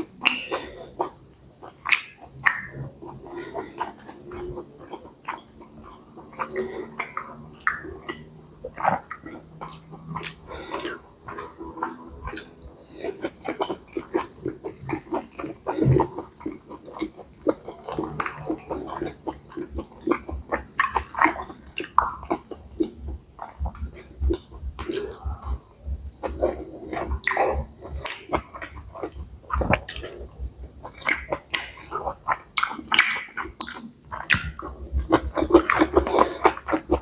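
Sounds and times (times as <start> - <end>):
person chewing with wet mouth sounds: 0.0 - 37.0.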